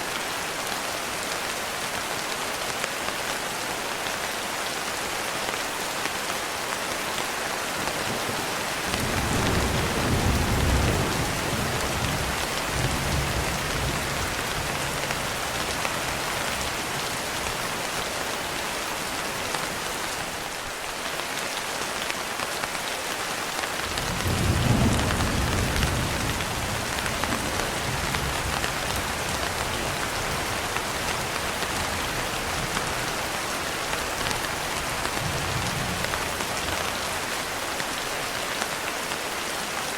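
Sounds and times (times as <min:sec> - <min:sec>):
heavy rain on a window: 0:00.0 - 0:39.9.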